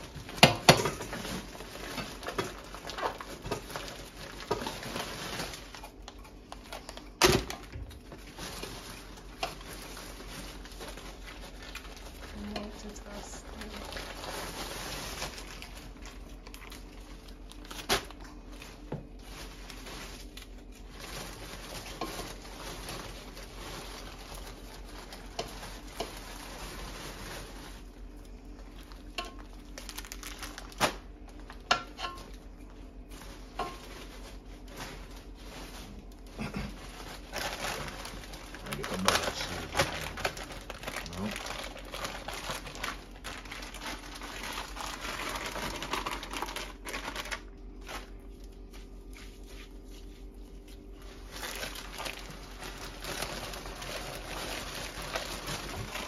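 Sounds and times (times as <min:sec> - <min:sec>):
plastic bag rustling: 0:00.0 - 0:56.0.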